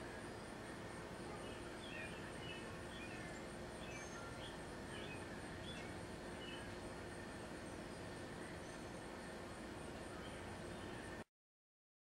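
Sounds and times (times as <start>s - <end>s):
steady background noise: 0.0s - 11.3s
small birds chirping: 0.2s - 11.2s.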